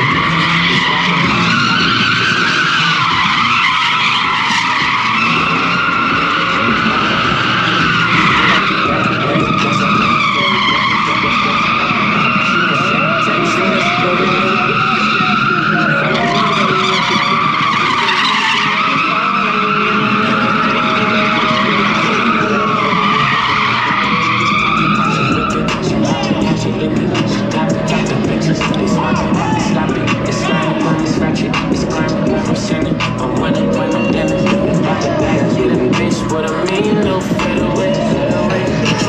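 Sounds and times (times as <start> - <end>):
car engine running hard: 0.0 - 39.0
tyres squealing: 0.0 - 39.0.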